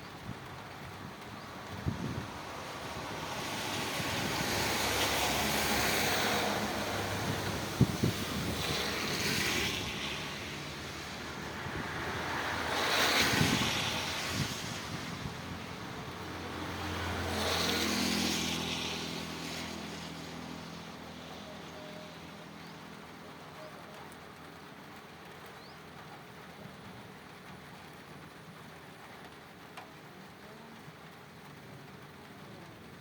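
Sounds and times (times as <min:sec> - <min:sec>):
rain falling: 0:00.0 - 0:33.0
rushes of rain: 0:00.0 - 0:33.0.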